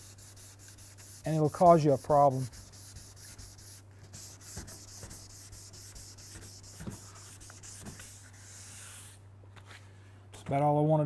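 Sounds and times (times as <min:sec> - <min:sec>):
sandpaper rubbing on car paint: 0:00.0 - 0:09.2.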